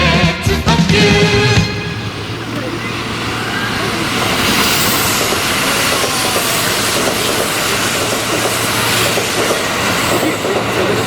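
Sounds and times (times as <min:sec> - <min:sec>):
train rushing on rails: 0:00.0 - 0:11.0
train wheel clatter: 0:00.9 - 0:11.0.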